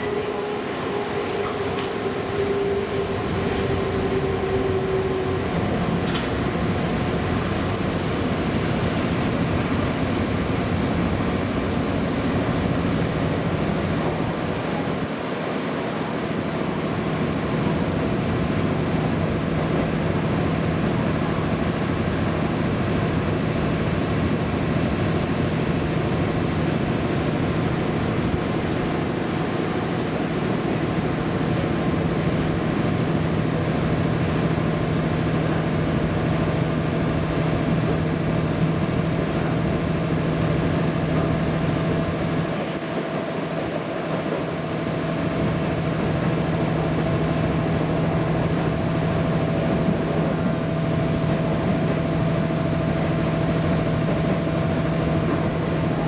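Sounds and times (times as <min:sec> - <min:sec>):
train cabin running noise: 0:00.0 - 0:56.0.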